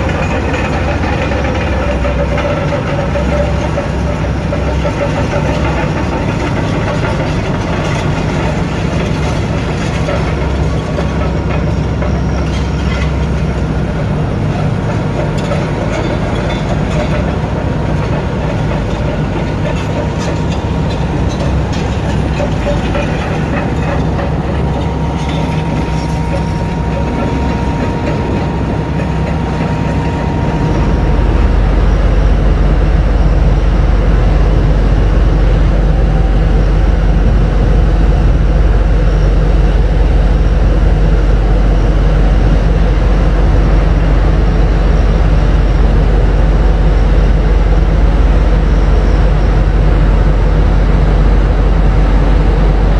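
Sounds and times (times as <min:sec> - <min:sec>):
heavy diesel machinery engine drone: 0:00.0 - 0:52.9.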